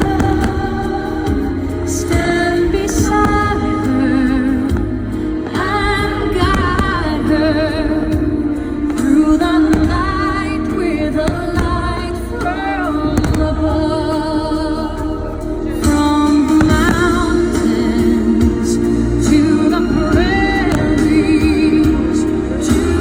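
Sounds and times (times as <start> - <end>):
sustained accompaniment: 0.0 - 23.0.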